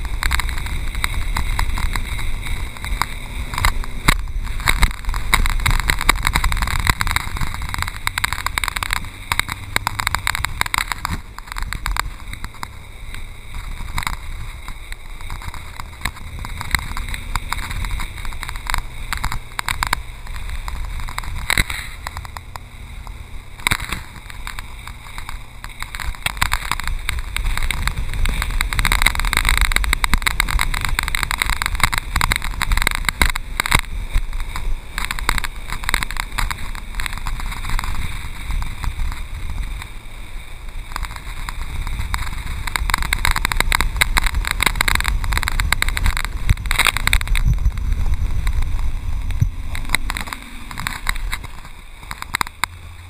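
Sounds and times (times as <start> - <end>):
water rushing and splashing: 0.0 - 53.0
wind buffeting microphone: 0.0 - 53.0.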